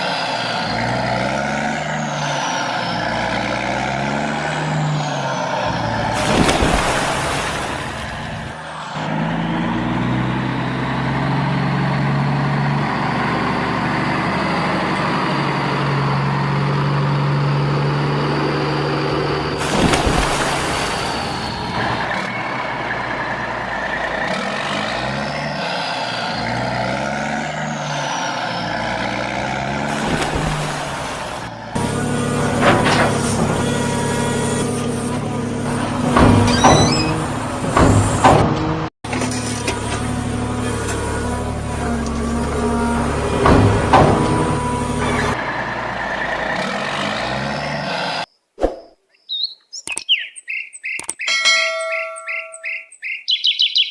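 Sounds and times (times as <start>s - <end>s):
truck diesel engine revving: 0.0s - 48.3s.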